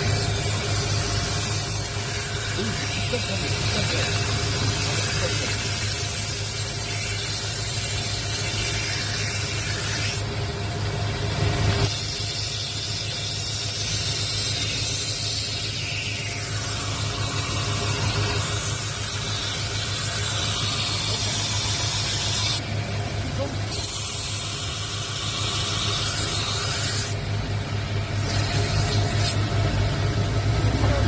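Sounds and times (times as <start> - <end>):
blade hissing against grinding wheel: 0.0 - 10.4, 11.8 - 22.8, 23.5 - 27.4, 28.0 - 29.5
grinder motor hum: 0.0 - 31.0.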